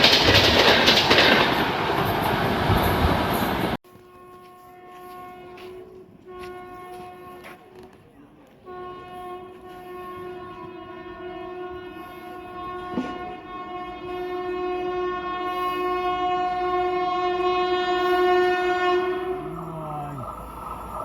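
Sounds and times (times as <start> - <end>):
train horn long blast: 3.9 - 21.0.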